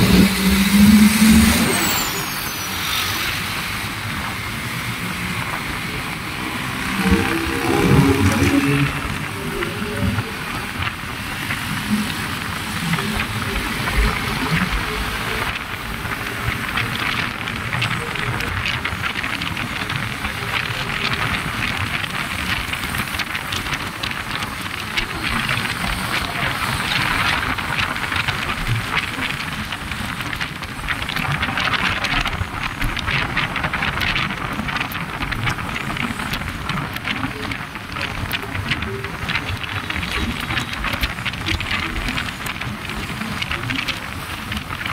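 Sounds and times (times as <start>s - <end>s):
motorcycle engine and road noise: 0.0s - 44.9s
wind on microphone: 0.0s - 44.9s.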